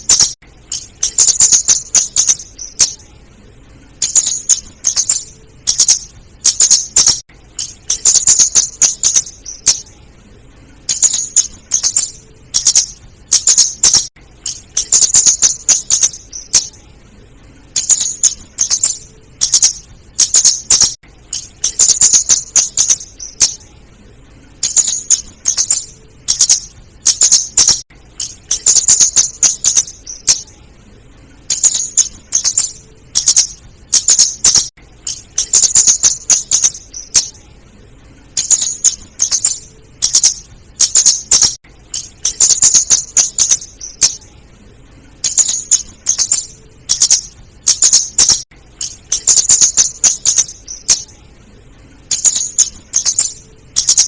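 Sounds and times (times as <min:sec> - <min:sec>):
bird high ticking calls: 0:00.0 - 0:03.1, 0:04.0 - 0:10.0, 0:10.8 - 0:16.8, 0:17.7 - 0:23.7, 0:24.6 - 0:30.6, 0:31.5 - 0:37.4, 0:38.4 - 0:44.3, 0:45.2 - 0:51.2, 0:52.1 - 0:54.0.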